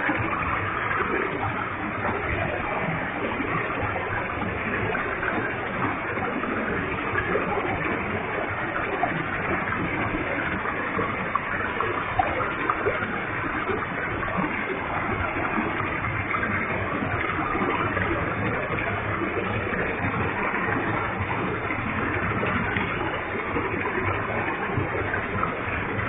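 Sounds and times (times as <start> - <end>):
heavy waterfall rushing: 0.0 - 26.0.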